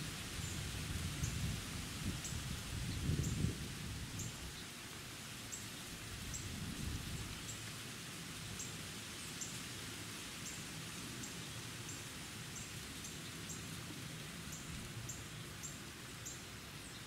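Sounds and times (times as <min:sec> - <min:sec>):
soft steady hiss: 0:00.0 - 0:17.0.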